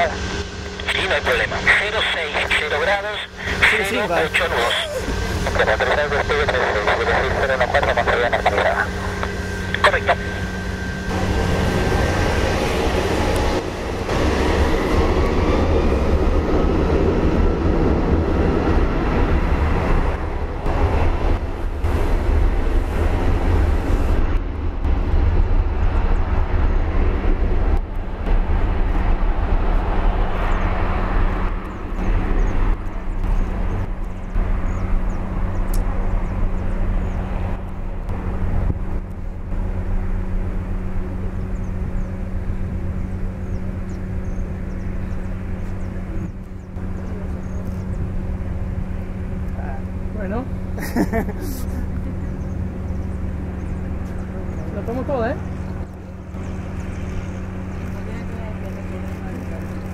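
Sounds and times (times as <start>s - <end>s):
high turbine whine: 0.0s - 59.9s
jet engines rumbling: 0.0s - 59.9s.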